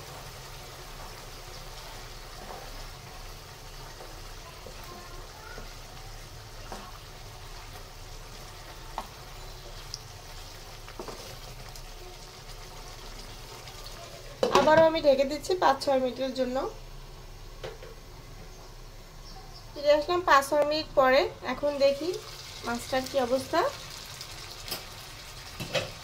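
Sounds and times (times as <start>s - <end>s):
curry bubbling and sizzling: 0.0s - 26.0s.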